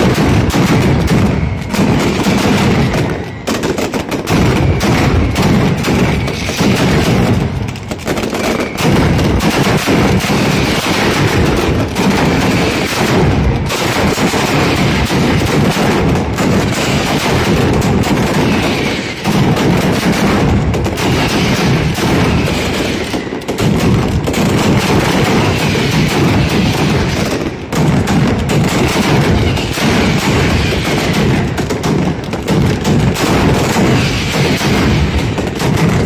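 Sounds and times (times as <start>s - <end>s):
firecrackers rapid bangs: 0.0s - 36.0s.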